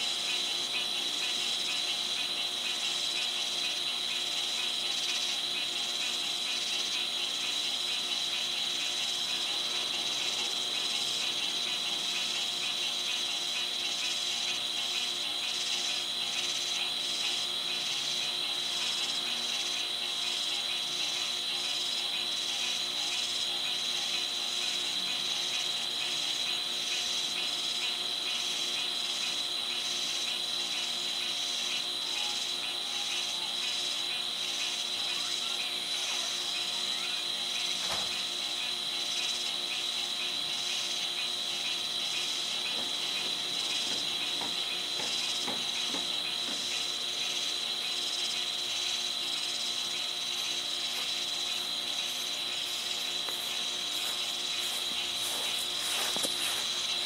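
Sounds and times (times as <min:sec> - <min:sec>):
insect high-pitched trill: 0:00.0 - 0:57.0
pulsing insect call: 0:00.0 - 0:57.0.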